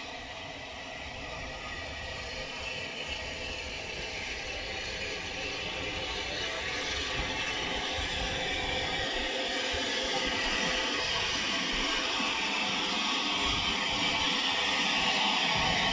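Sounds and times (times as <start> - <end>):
steam hissing: 0.0 - 15.9.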